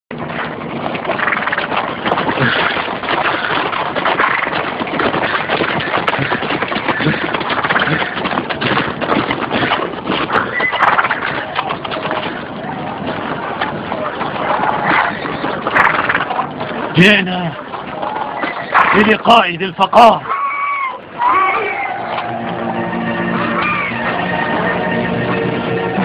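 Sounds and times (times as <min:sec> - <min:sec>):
hooves galloping: 0:00.1 - 0:26.0
horses neighing: 0:00.5 - 0:26.0.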